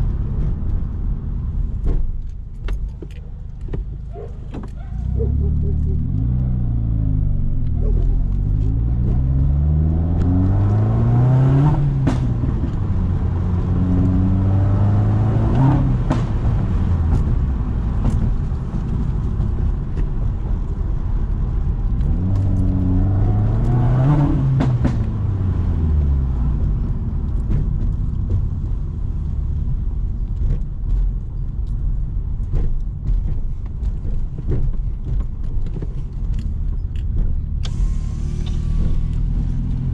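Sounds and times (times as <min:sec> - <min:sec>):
exhaust pops: 0:00.0 - 0:39.9
gear change: 0:00.0 - 0:39.9
car engine revving: 0:04.4 - 0:19.7, 0:20.6 - 0:31.0, 0:32.4 - 0:39.9.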